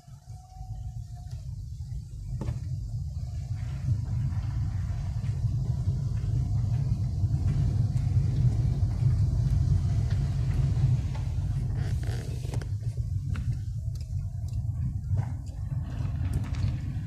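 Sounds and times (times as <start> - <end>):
tyre and road noise: 0.0 - 17.0
car engine: 2.2 - 17.0.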